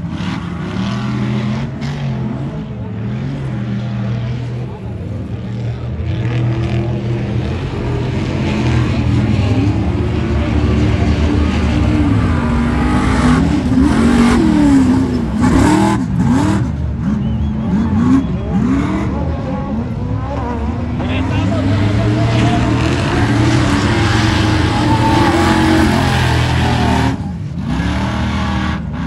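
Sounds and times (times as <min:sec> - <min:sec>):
steady engine drone: 0:00.0 - 0:29.0
truck engines revving hard: 0:00.0 - 0:29.0.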